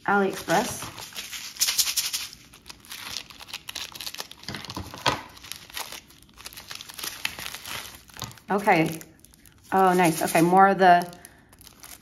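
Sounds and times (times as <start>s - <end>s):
plastic bag crinkling: 0.1s - 12.0s.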